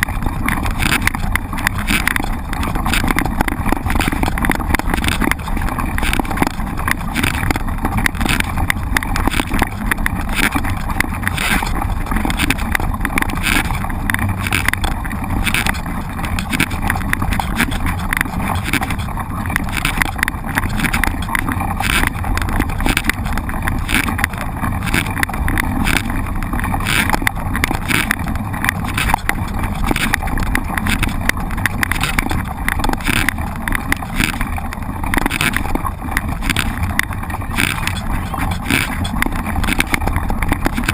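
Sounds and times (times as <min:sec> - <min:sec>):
mountain bike rattling: 0:00.0 - 0:40.9
rolling and wind noise: 0:00.0 - 0:40.9.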